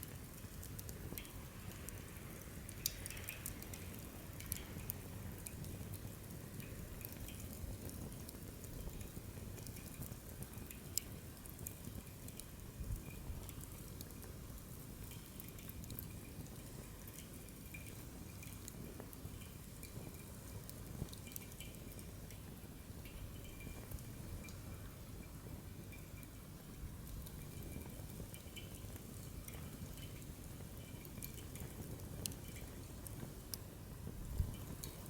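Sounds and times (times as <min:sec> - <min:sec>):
low rumble of flame: 0:00.0 - 0:35.0
wood fire crackling and popping: 0:00.0 - 0:35.0.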